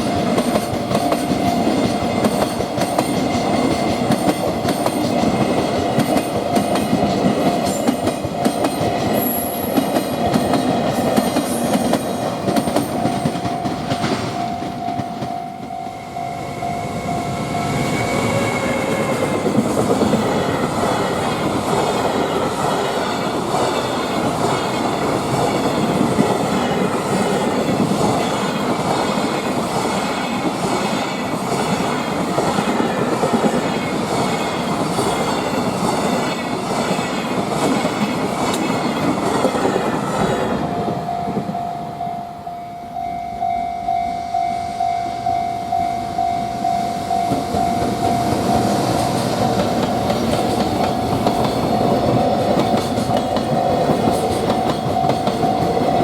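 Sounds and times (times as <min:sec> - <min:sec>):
freight train wheels clacking: 0:00.0 - 0:41.9, 0:46.0 - 0:56.0.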